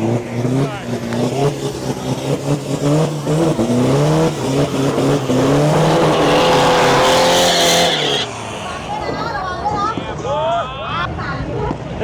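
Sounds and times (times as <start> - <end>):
race car engines revving: 0.0 - 10.4.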